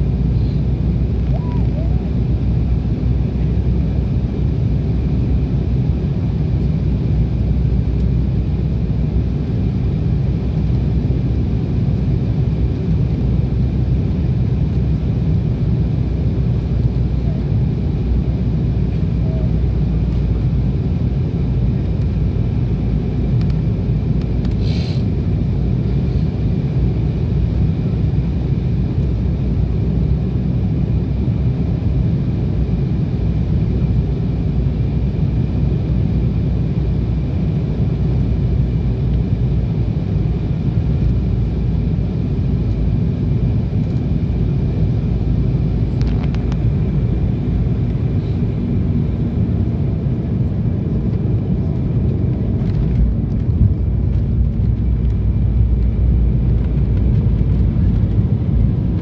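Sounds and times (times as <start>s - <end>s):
jet engines droning: 0.0s - 59.0s.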